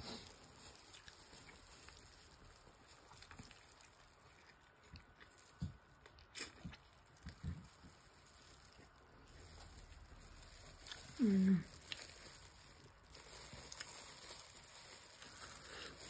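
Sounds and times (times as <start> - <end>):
chewing and biting food: 0.1 - 16.0.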